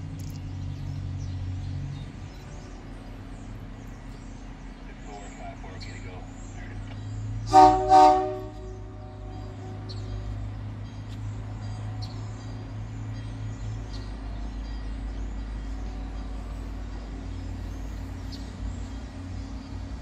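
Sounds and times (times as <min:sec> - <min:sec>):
diesel train engine rumbling: 0:00.0 - 0:20.0.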